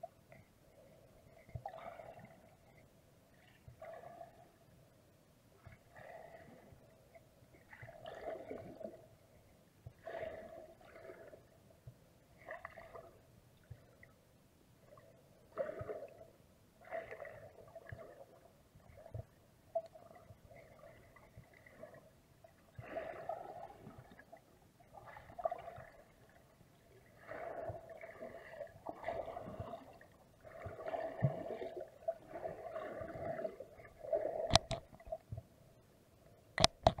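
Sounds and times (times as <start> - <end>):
underwater gurgling: 0.0 - 4.7, 5.5 - 9.3, 9.9 - 11.6, 12.4 - 14.1, 14.8 - 35.5.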